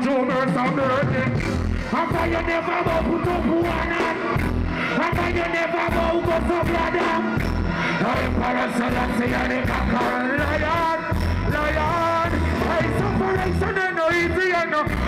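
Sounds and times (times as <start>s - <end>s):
live reggae band: 0.0s - 15.0s
man singing: 0.0s - 15.0s.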